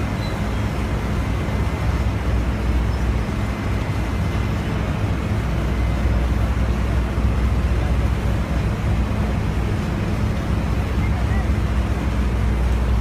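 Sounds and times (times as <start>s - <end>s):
ship machinery engine rumble: 0.0s - 13.0s.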